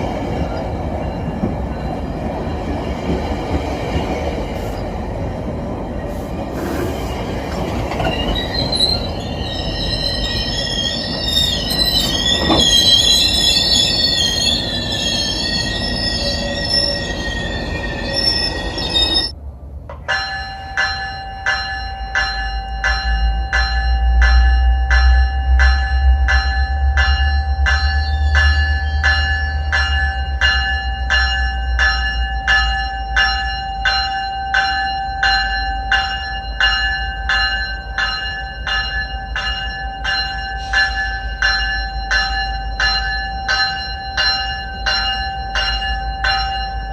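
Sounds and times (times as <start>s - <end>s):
train wheels squealing on rails: 0.0s - 5.1s, 5.9s - 19.4s, 24.2s - 33.9s, 34.5s - 46.9s
locomotive bell ringing: 7.7s - 19.4s, 20.0s - 46.9s.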